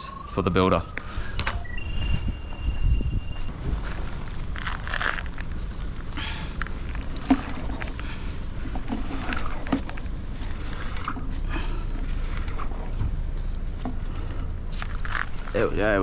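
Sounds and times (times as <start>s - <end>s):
wind rumbling on microphone: 0.2s - 16.0s.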